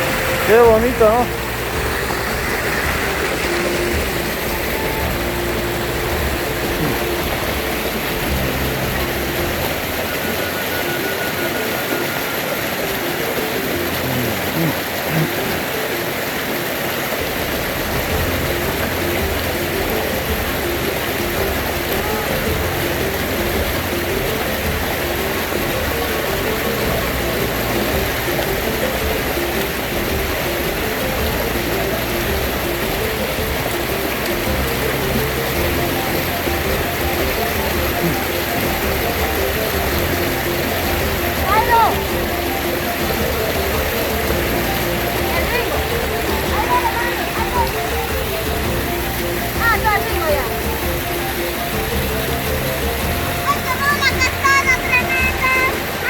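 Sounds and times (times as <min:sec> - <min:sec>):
river and waterfall rushing: 0:00.0 - 0:56.0.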